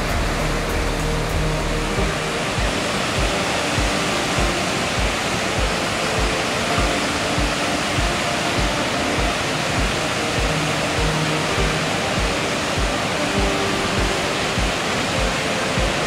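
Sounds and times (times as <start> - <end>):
background music with low beat: 0.0 - 16.0
waterfall roaring: 0.0 - 16.0.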